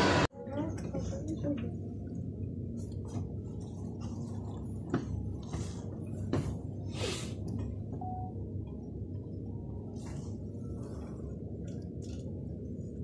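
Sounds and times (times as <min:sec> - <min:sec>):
low indoor rumble: 0:00.0 - 0:13.0.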